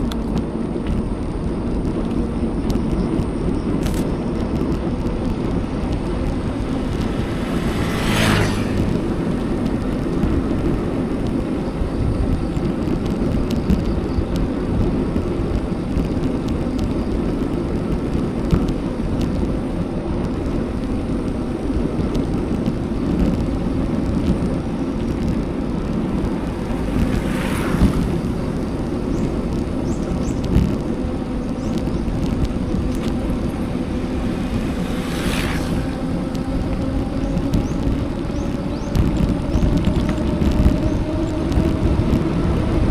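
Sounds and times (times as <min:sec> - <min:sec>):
bicycle road noise: 0:00.0 - 0:42.9
wind rushing on microphone: 0:00.0 - 0:42.9.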